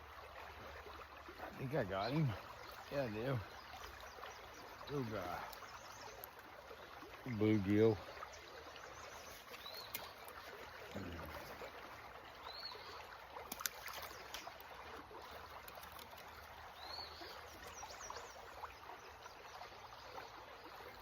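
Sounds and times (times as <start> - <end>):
creek water trickling: 0.0 - 21.0.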